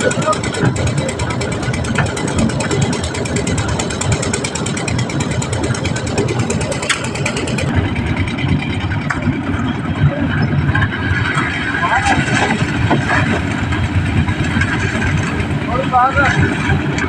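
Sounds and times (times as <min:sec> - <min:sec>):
tractor diesel engine clattering: 0:00.0 - 0:17.0.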